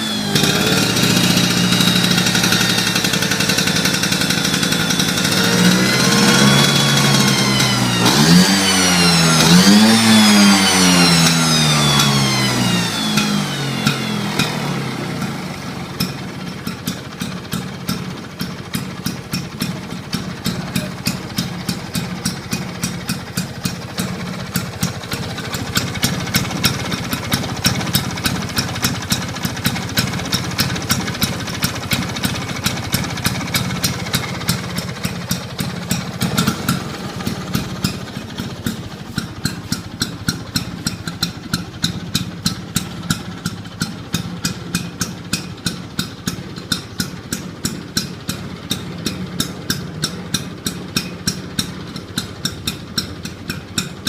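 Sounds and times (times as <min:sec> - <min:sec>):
scooter engine idling: 0:00.0 - 0:54.0.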